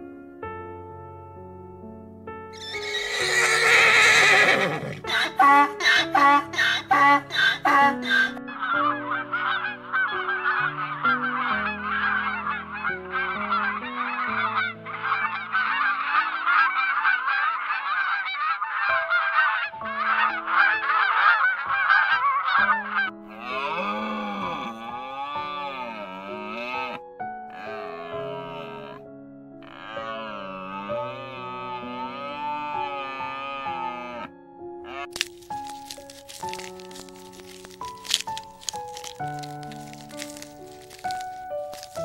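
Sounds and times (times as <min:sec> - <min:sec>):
soft instrumental music: 0:00.0 - 0:42.0
waterfowl honking: 0:05.1 - 0:27.0, 0:27.6 - 0:29.0, 0:29.6 - 0:34.3, 0:34.9 - 0:42.0.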